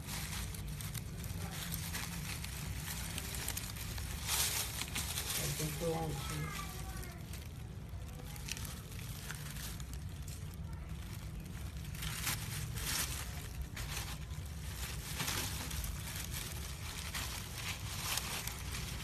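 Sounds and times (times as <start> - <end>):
dry leaves crackling and rustling: 0.0 - 19.0
low steady rumble: 0.0 - 19.0.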